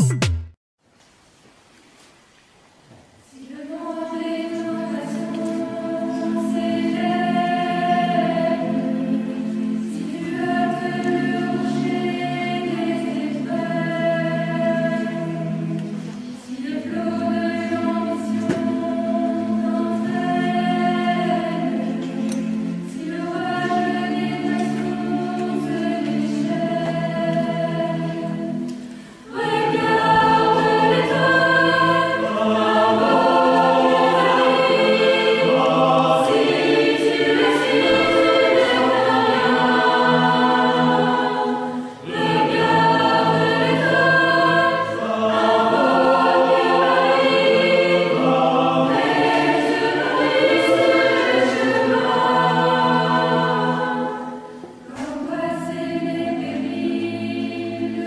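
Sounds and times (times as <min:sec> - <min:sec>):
choir singing sacred music: 0:03.2 - 0:58.0.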